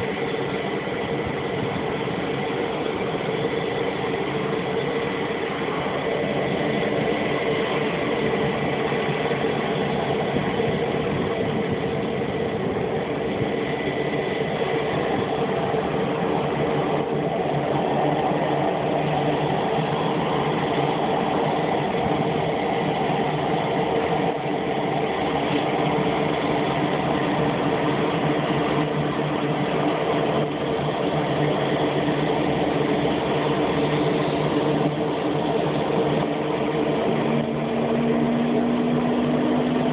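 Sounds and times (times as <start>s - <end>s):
thin high whine: 0.0s - 39.9s
turboprop engine idling: 0.0s - 39.9s.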